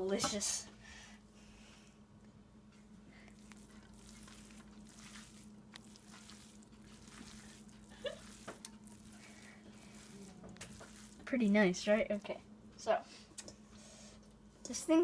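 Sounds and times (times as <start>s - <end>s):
soft food squishing: 1.2s - 14.6s.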